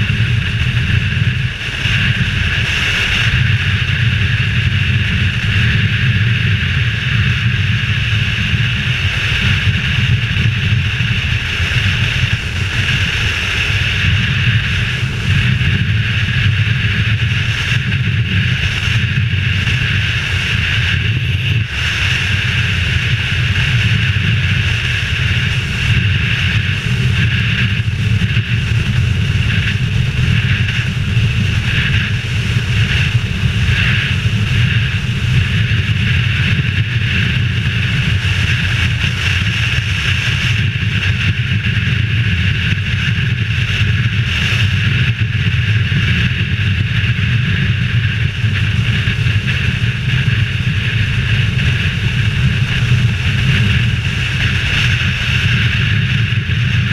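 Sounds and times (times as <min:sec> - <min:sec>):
motorcycle engine: 0:00.0 - 0:56.9
road noise: 0:00.0 - 0:56.9
wind rushing over helmet: 0:00.0 - 0:56.9.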